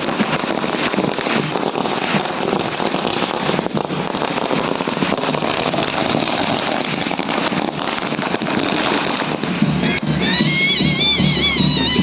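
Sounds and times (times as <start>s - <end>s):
firecrackers popping: 0.0s - 12.0s.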